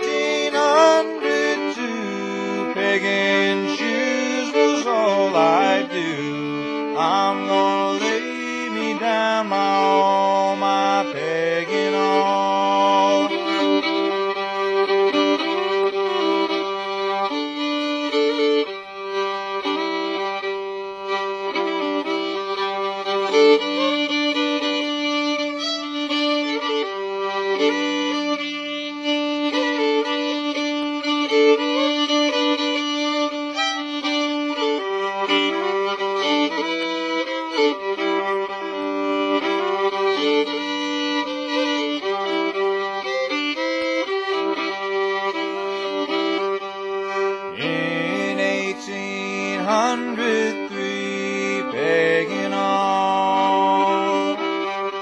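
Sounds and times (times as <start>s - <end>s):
fiddle playing old-time tune: 0.0s - 55.0s.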